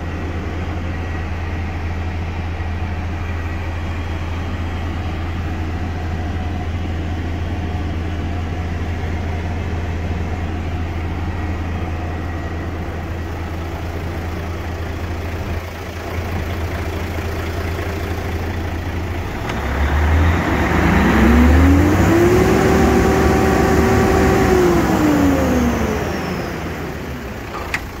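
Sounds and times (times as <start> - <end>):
diesel truck engine idling and revving: 0.0 - 28.0.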